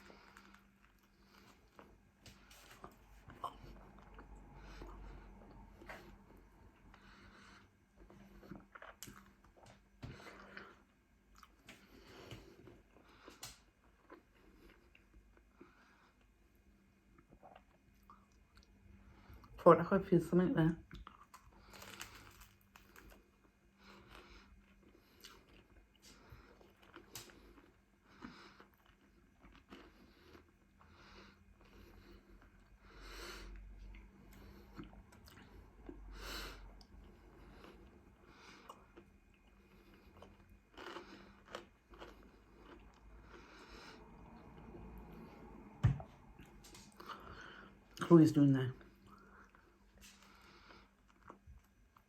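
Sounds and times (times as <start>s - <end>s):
chewing and biting food: 0.0s - 15.6s, 20.9s - 32.7s, 33.5s - 47.6s, 48.9s - 52.0s.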